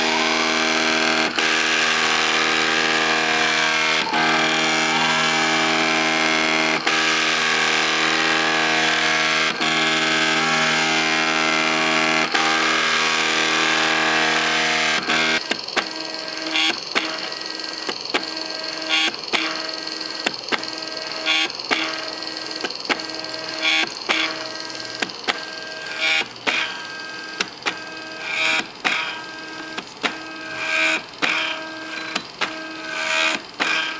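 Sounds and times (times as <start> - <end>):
stepper motors whining: 0.0 - 33.9.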